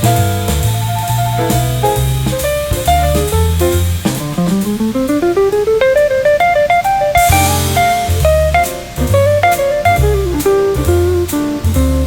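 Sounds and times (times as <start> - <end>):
bass: 0.0 - 12.0
drum kit: 0.0 - 12.0
plucked guitar melody: 0.0 - 12.0.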